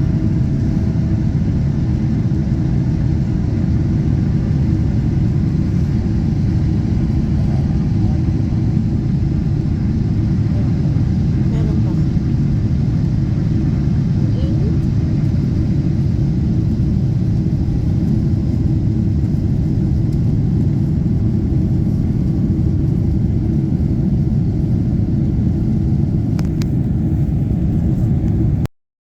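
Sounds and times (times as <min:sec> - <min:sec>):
jet engine rumble in cabin: 0:00.0 - 0:28.7.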